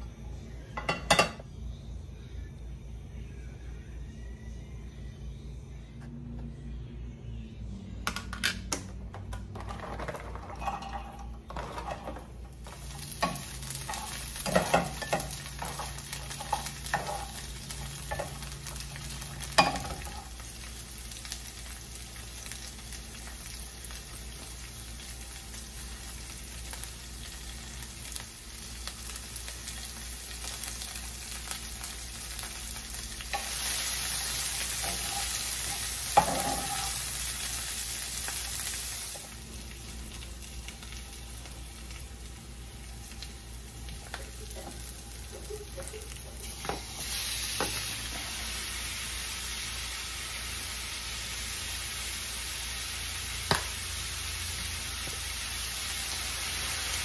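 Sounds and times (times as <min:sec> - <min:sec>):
onions sizzling in a frying pan: 0:09.6 - 0:57.0.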